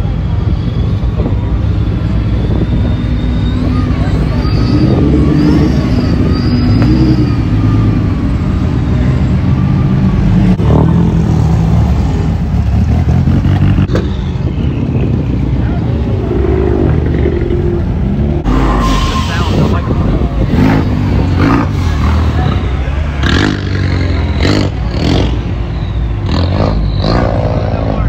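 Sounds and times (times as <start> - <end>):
car exhausts revving: 0.0 - 28.0.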